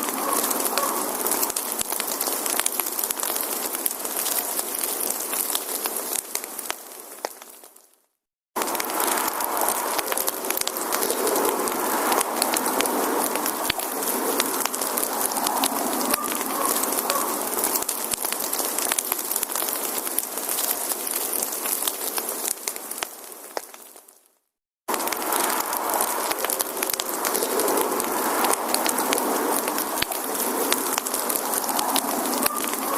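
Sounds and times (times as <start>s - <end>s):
firewood crackling and popping: 0.0s - 32.9s.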